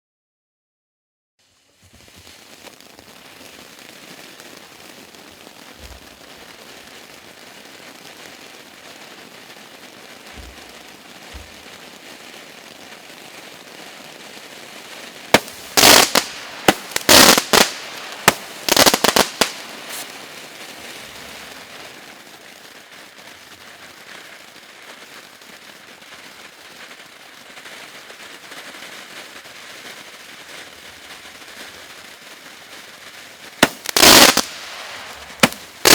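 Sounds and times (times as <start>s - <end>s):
firework fountain hissing: 1.4s - 35.9s
rapid firework bangs: 1.9s - 35.9s.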